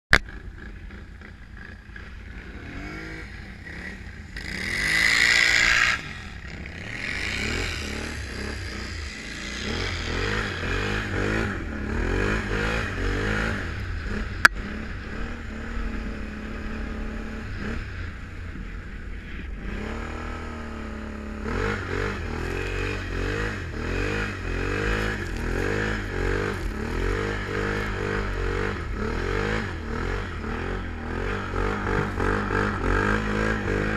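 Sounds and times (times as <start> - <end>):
atv engine revving: 0.2 - 33.9.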